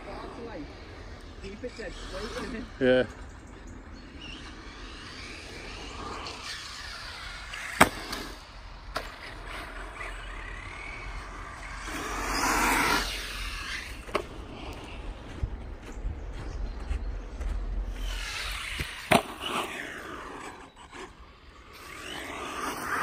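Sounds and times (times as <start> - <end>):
electric toy car motor whining: 0.8 - 3.2, 3.9 - 15.0, 17.9 - 23.0.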